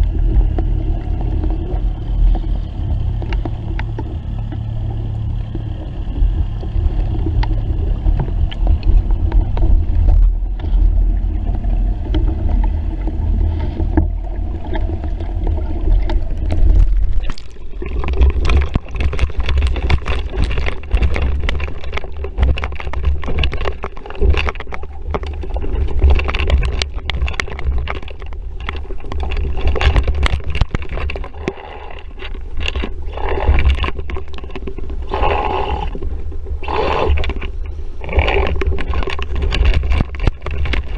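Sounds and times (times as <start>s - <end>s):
water rushing along hull: 0.0s - 40.9s
water slapping hull: 0.0s - 40.9s.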